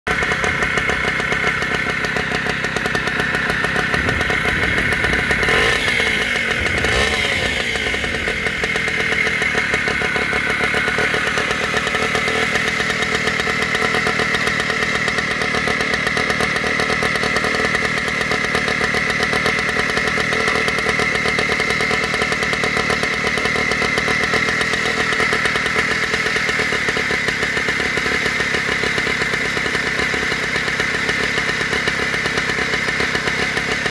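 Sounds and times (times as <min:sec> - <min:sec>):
outboard engine running: 0:00.1 - 0:33.9.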